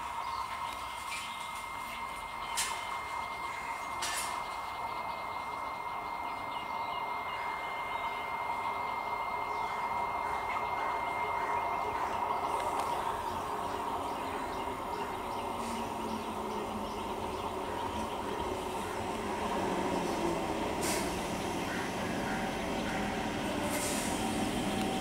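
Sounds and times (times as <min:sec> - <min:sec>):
birds chirping faintly: 0:00.0 - 0:25.0
electric train humming: 0:00.0 - 0:25.0.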